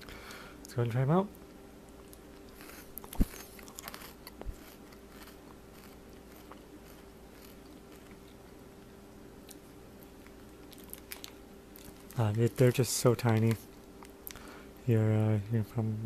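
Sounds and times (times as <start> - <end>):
faint crunching and chewing candy: 0.0 - 15.8
low steady hum: 0.0 - 16.0.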